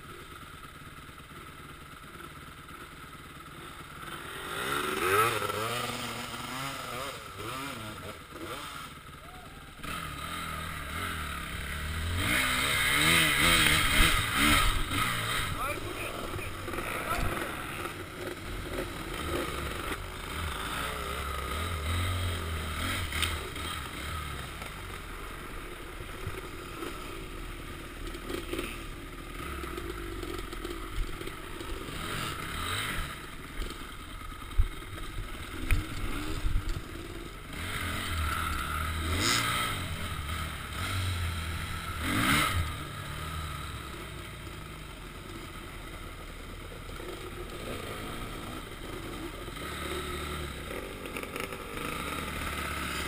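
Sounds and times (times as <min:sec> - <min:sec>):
dirt bike engine revving: 0:03.4 - 0:53.0.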